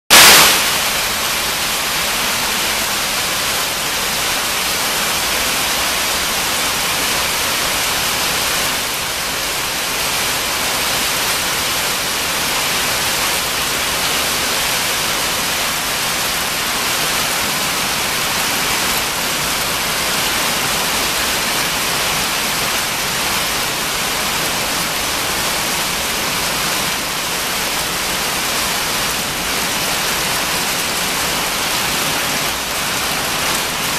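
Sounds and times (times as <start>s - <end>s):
hail and rain on pavers: 0.1s - 33.9s.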